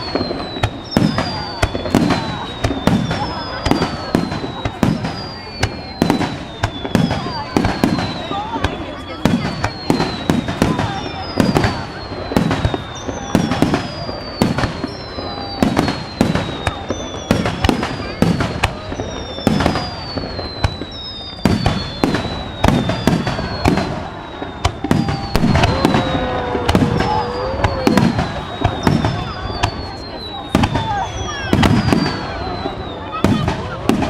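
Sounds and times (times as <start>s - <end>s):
high falling whistles: 0.0s - 33.2s
fireworks bangs: 0.0s - 34.0s.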